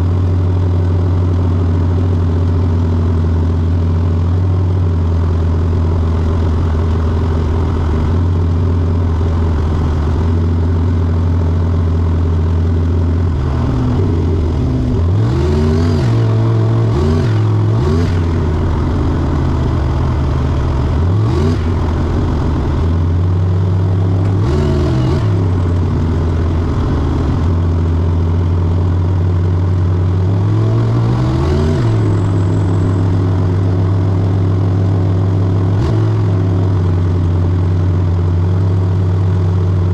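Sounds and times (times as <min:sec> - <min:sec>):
car engine idling: 0:00.0 - 0:15.4, 0:16.2 - 0:30.6, 0:31.9 - 0:39.9.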